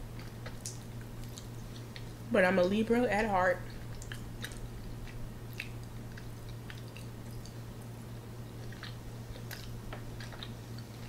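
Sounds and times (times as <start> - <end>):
person chewing food: 0.0 - 2.3, 3.6 - 11.0.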